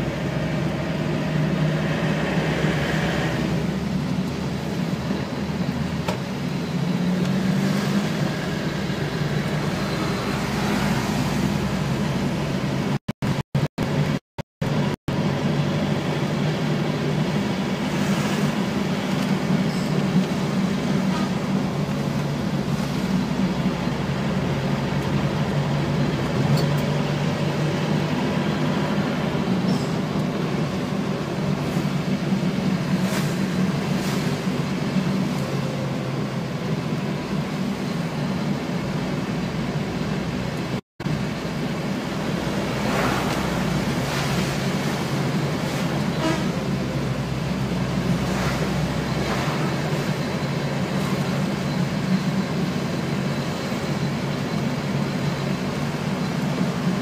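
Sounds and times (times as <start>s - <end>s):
tyre noise on wet road: 0.0s - 57.0s
vehicle engine running: 0.0s - 57.0s.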